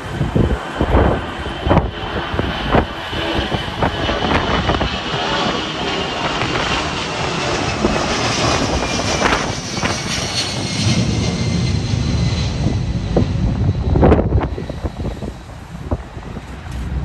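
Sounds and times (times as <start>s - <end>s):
jet engines roaring: 0.0s - 17.0s
wind buffeting microphone: 0.0s - 17.0s.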